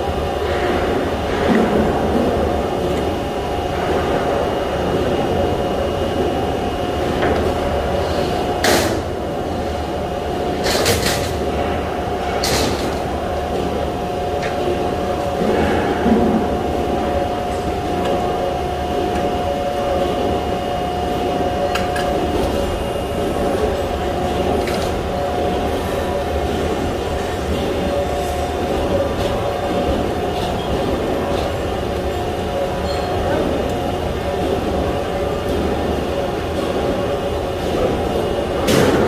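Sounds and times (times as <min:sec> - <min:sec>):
shop machinery drone: 0:00.0 - 0:39.0.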